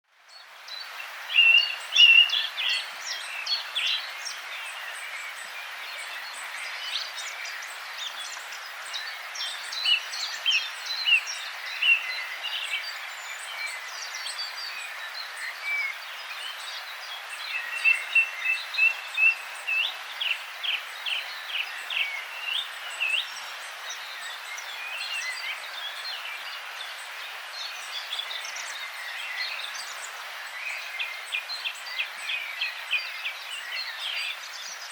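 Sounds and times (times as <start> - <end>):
songbirds singing: 0.1 - 34.9
river rushing: 0.4 - 34.9.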